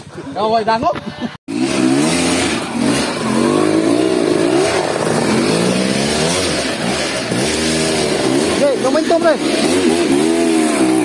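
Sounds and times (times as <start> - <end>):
motorcycle engine revving: 1.5 - 11.0.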